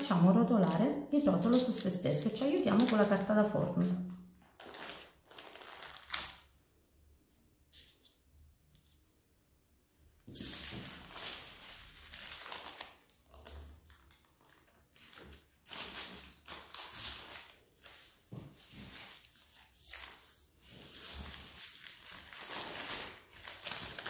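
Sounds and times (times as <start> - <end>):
baking paper rustling and crinkling: 0.0 - 6.5, 10.2 - 24.0.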